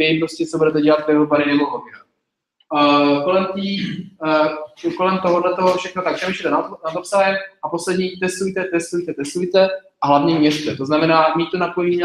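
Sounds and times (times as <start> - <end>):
man speaking: 0.0 - 2.0, 2.7 - 12.0.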